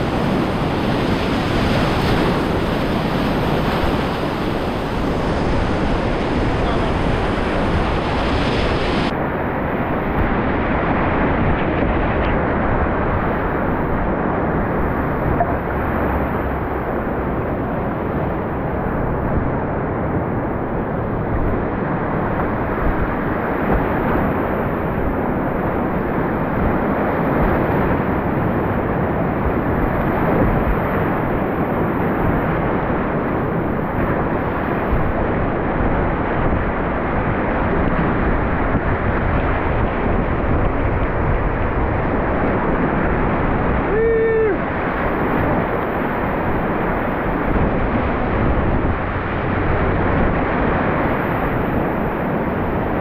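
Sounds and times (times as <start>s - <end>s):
river whitewater rushing: 0.0s - 11.5s, 12.4s - 53.0s.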